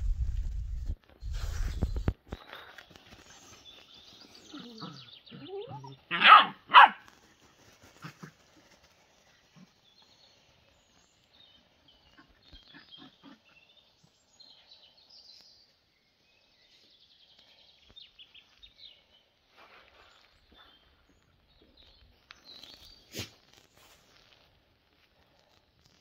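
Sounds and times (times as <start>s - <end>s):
faint outdoor ambience: 0.0s - 26.0s.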